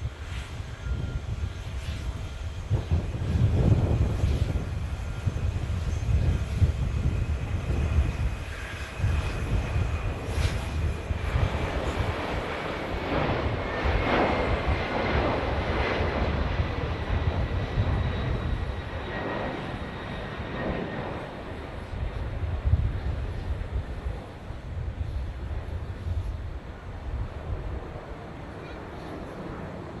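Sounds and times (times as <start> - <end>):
jet airliner passing overhead: 0.0 - 30.0.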